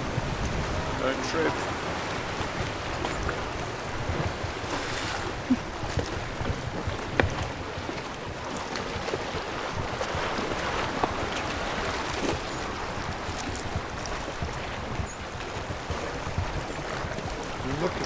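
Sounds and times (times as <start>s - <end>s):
sea washing: 0.0s - 18.0s
wind buffeting microphone: 0.0s - 18.0s.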